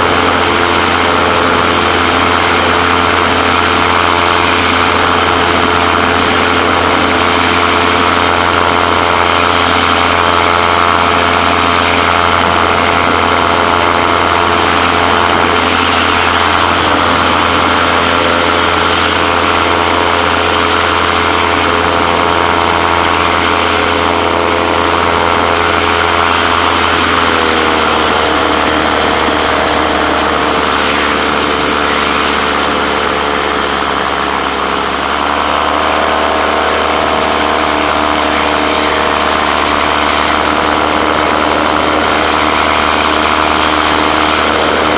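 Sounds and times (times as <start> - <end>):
gyroplane engine droning: 0.0 - 44.9.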